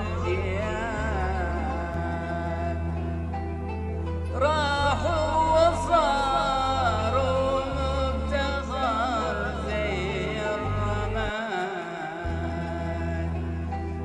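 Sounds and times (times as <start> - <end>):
man singing melismatic line: 0.0 - 3.4, 4.3 - 14.0.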